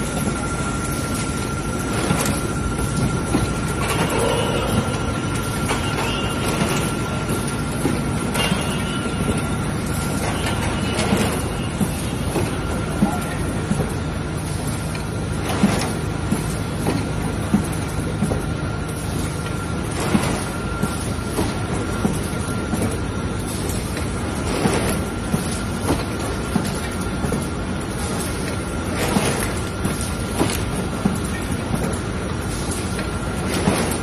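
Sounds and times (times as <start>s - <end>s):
machine mechanical din: 0.0s - 34.0s.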